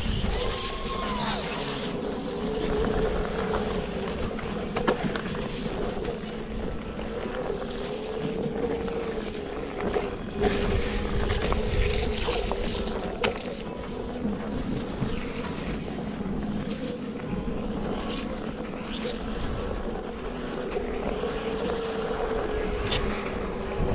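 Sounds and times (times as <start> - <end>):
electric motor whining: 0.0 - 23.9
wind noise on microphone: 0.0 - 23.9.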